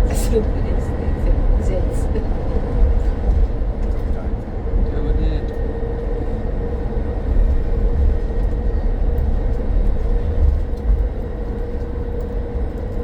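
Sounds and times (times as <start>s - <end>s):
bus rumble: 0.0s - 13.0s.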